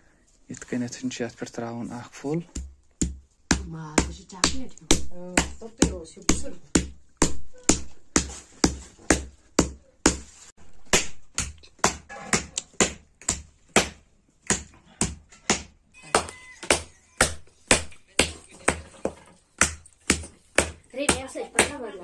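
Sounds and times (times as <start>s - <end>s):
wooden mallet pounding meat: 2.5s - 21.9s.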